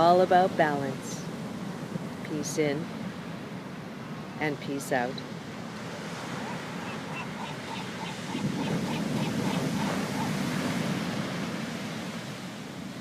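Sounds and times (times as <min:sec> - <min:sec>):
ocean surf washing in: 0:00.6 - 0:13.0.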